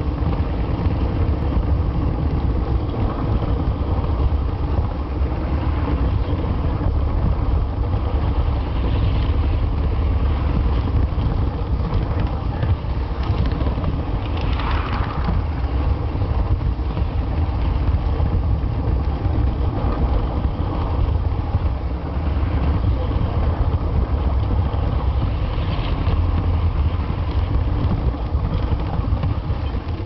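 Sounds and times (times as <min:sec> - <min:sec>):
model train rumbling on track: 0:00.0 - 0:30.0.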